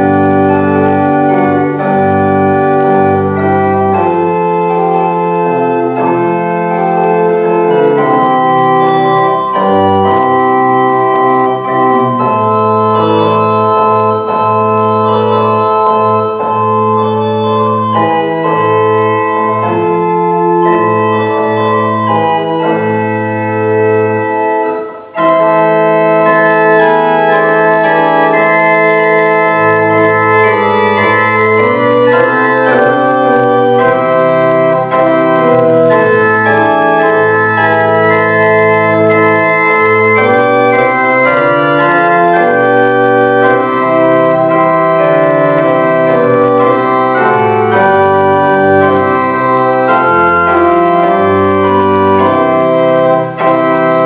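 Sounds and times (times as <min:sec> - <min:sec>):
church organ playing chords: 0:00.0 - 0:54.0.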